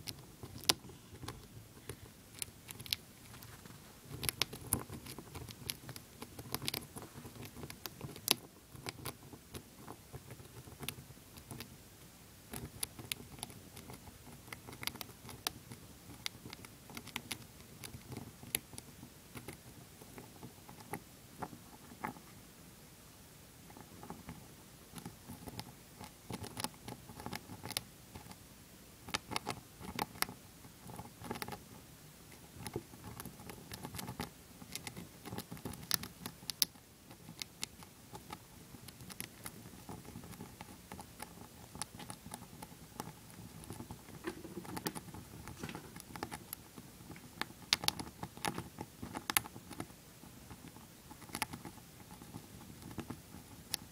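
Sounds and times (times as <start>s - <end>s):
hamster gnawing peanut: 0.0s - 11.8s, 12.4s - 22.4s, 23.6s - 28.4s, 29.0s - 53.9s.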